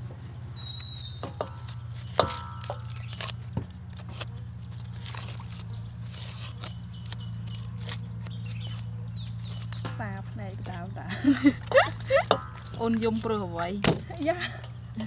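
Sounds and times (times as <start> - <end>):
low steady hum: 0.0 - 15.0
cleaver scraping onion skins: 0.6 - 14.2.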